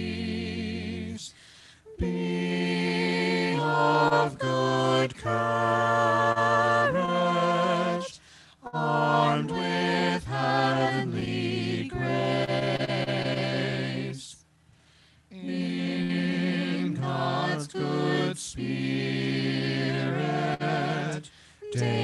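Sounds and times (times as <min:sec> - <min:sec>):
group singing a hymn in harmony: 0:00.0 - 0:14.4, 0:15.3 - 0:22.0.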